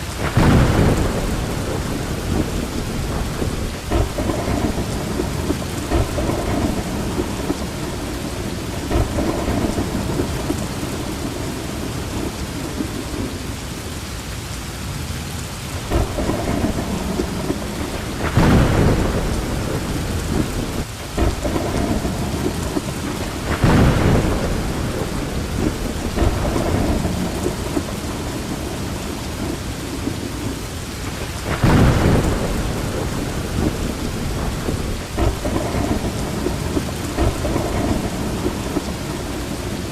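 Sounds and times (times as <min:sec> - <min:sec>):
thunder rumbling: 0:00.0 - 0:13.7, 0:15.6 - 0:39.9
steady rain falling: 0:00.0 - 0:39.9.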